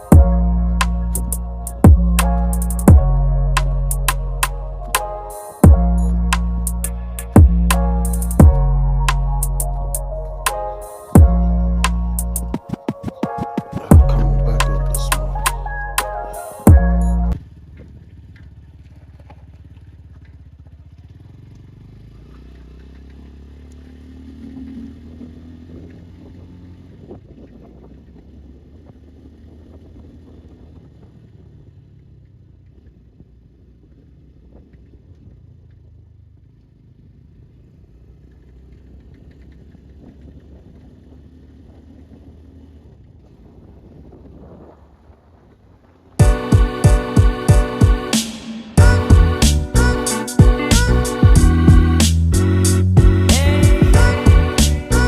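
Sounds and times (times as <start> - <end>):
motorcycle engine running: 0.0 - 5.0, 5.6 - 9.0, 11.2 - 12.6, 16.7 - 44.3, 46.2 - 55.0.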